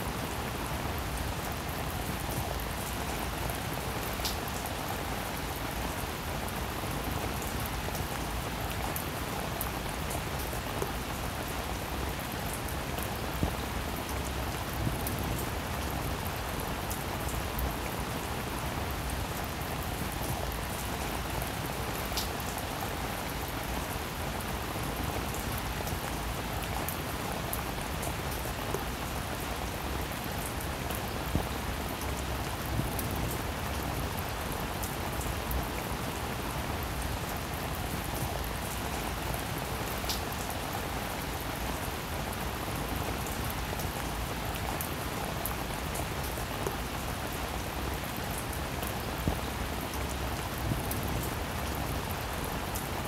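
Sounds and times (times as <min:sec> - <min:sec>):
rain on wet pavement: 0:00.0 - 0:53.0.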